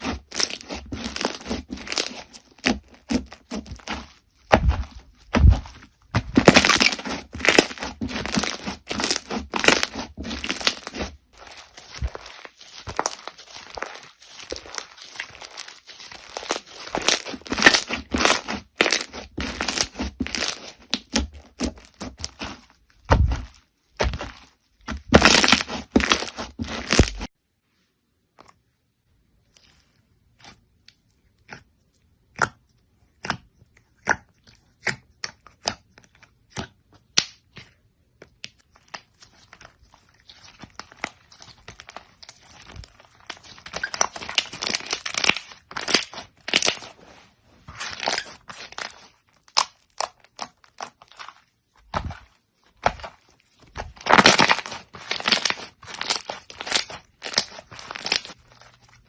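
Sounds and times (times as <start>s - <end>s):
crunchy slime crackling: 0.0s - 27.3s, 38.3s - 59.0s.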